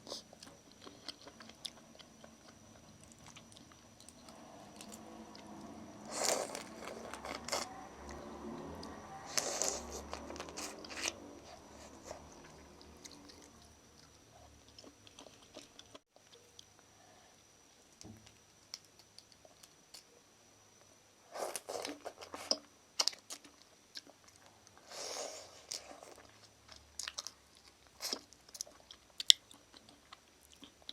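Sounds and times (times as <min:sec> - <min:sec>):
chewing noodles: 0:00.0 - 0:16.8, 0:21.4 - 0:30.9.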